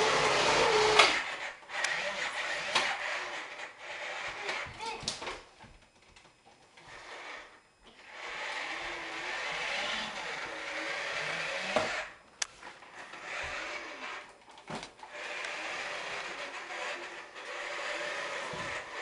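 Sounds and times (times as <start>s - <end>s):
toy bulldozer whirring and rattling: 0.0s - 5.3s, 6.7s - 19.0s.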